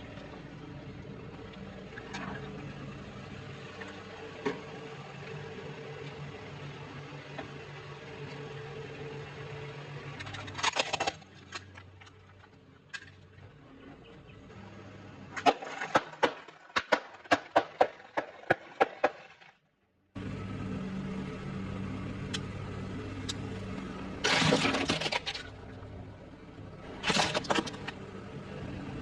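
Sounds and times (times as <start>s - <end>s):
low steady hum: 0.0s - 15.9s, 20.2s - 29.0s.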